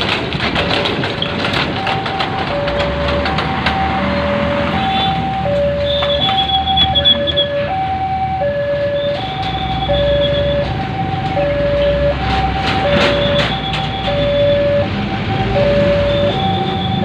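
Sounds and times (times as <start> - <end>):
low vehicle rumble: 0.0 - 17.0
two-tone hi-lo siren: 1.8 - 17.0.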